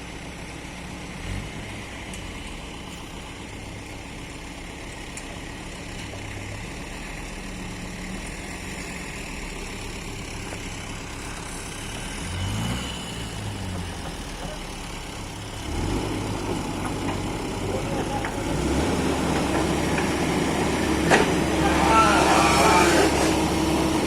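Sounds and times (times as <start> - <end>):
excavator diesel engine revving: 0.0 - 24.0.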